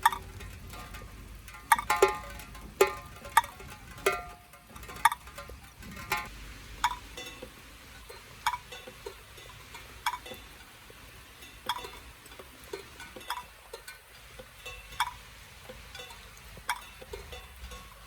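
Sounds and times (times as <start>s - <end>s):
water drops plinking into containers: 0.0s - 18.0s.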